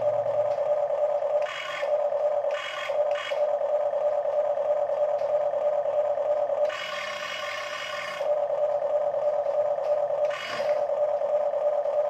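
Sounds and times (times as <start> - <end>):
hissy motor whir: 0.0 - 12.0
toy electric motors whining: 0.0 - 12.0.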